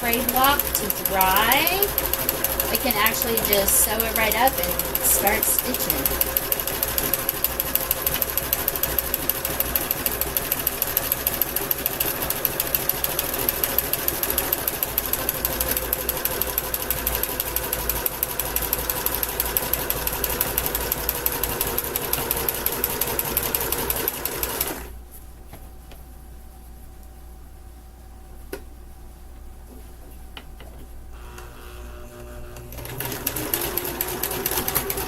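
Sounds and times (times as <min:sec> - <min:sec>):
sewing machine motor hum: 0:00.0 - 0:24.9, 0:31.1 - 0:35.0
sewing machine stitching: 0:00.0 - 0:24.9, 0:31.2 - 0:35.0.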